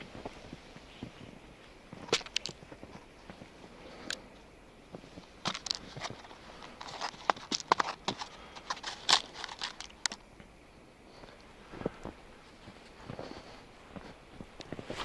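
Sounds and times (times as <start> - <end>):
footsteps crunching through snow: 0.0 - 4.0, 4.8 - 9.9, 11.1 - 15.0.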